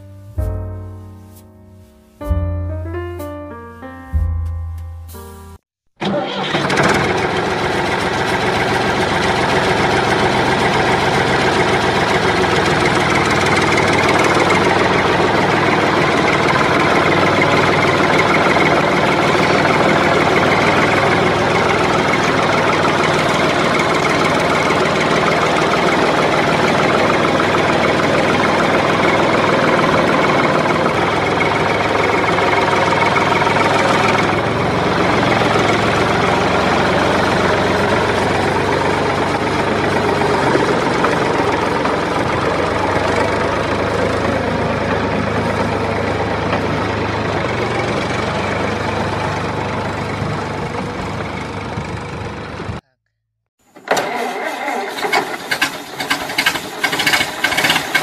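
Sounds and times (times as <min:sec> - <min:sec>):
engine idling: 0:06.0 - 0:53.0, 0:53.6 - 0:58.0.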